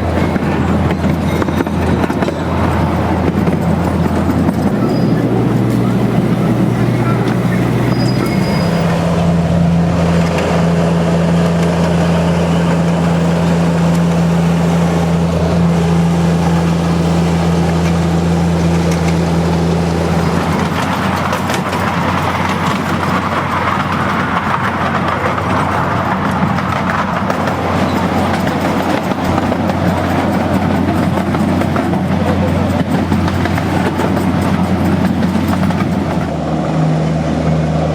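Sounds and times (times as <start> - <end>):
miniature locomotive engine hum: 0.0 - 37.9.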